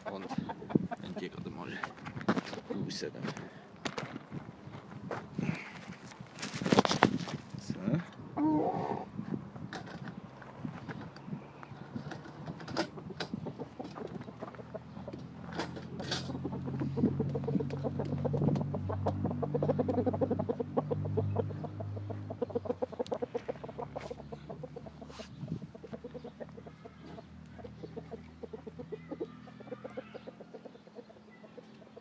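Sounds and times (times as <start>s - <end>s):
roosters clucking: 0.0s - 32.0s.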